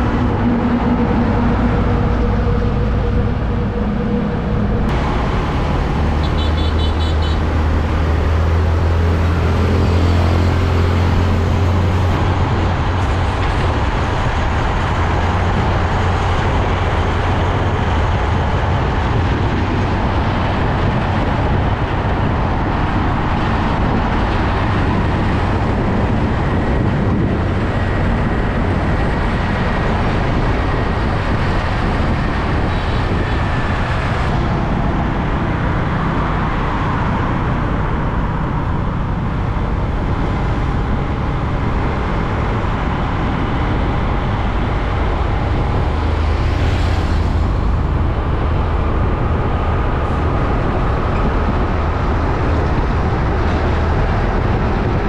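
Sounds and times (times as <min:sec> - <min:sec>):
truck engine drone: 0:00.0 - 0:55.0
tyre and road noise: 0:00.0 - 0:55.0.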